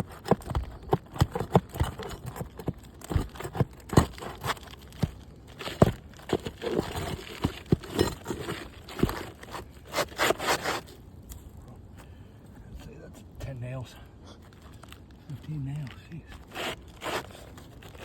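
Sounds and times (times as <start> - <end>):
crackling and scraping: 0.0 - 12.1, 12.8 - 18.0.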